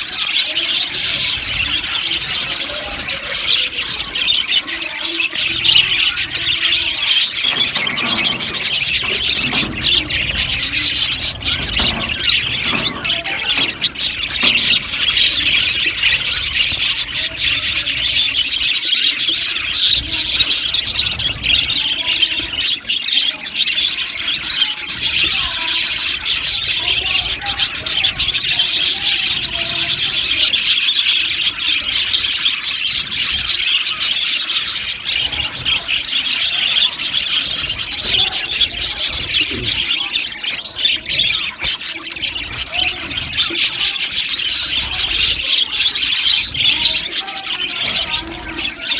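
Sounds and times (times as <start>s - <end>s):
budgerigars chirping: 0.0s - 48.9s.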